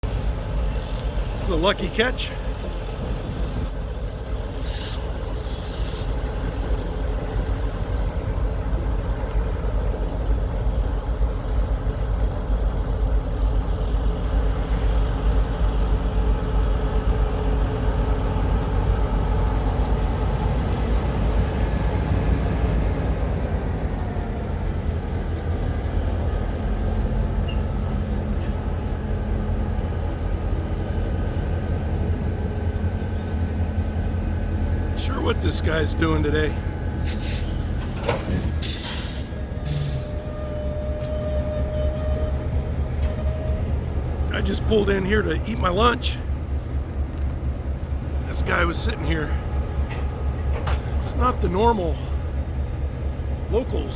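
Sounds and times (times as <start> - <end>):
locomotive engines rumbling: 0.0 - 53.9.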